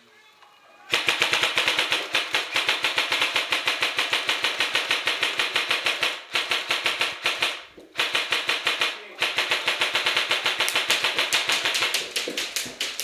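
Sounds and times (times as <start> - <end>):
airsoft gun firing full auto: 0.9 - 13.0.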